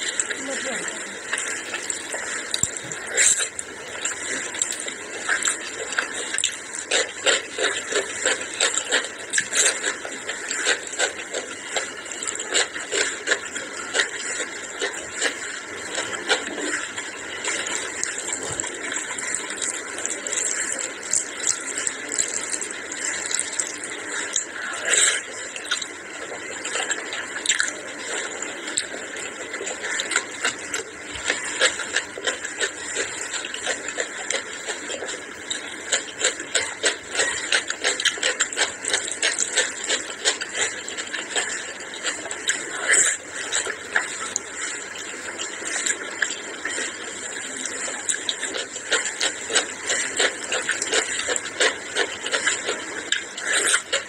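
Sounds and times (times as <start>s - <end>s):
eating sounds: 0.0s - 54.0s
wet squelching of food mixed by hand: 0.0s - 54.0s.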